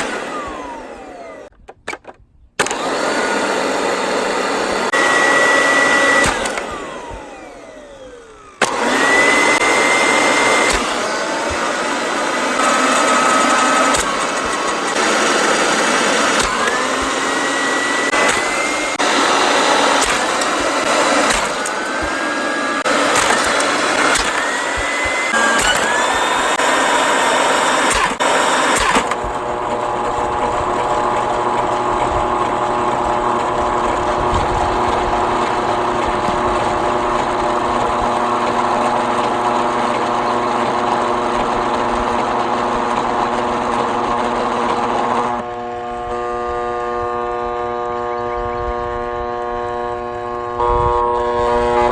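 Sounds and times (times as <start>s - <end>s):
vacuum cleaner motor running: 0.0s - 1.6s, 2.6s - 51.9s.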